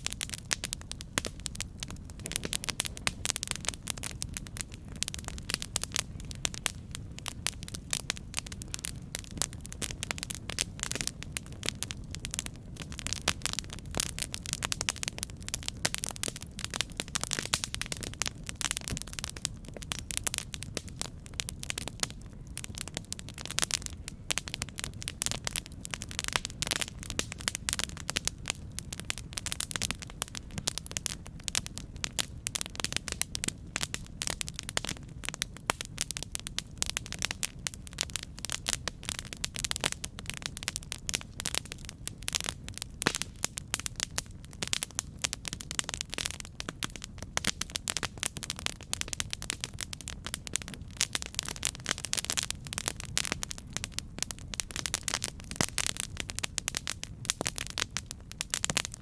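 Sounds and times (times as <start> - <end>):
campfire pops and snaps: 0.0 - 59.0
low rumble of burning: 0.0 - 59.0.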